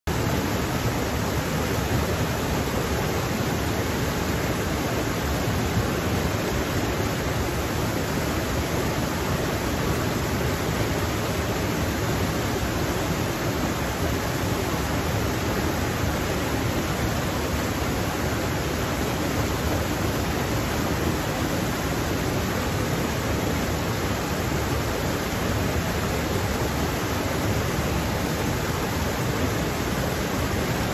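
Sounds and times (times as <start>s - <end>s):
stream rushing over boulders: 0.1s - 30.9s.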